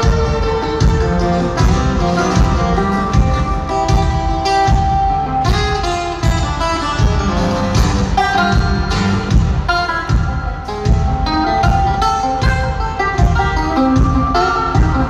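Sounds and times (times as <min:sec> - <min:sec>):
live concert music with guitars: 0:00.0 - 0:15.0.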